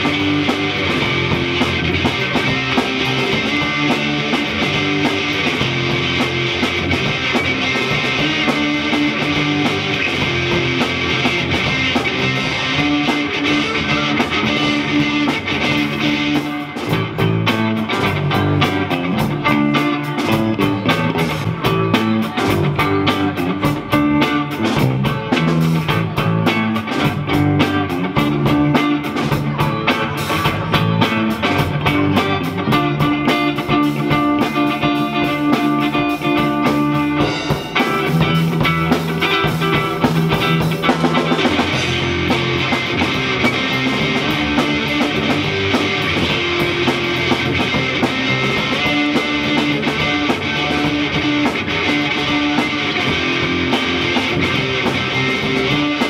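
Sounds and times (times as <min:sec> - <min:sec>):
drum kit: 0:00.0 - 0:56.0
electric bass: 0:00.0 - 0:56.0
electric guitar: 0:00.0 - 0:56.0
rock band playing: 0:00.0 - 0:56.0.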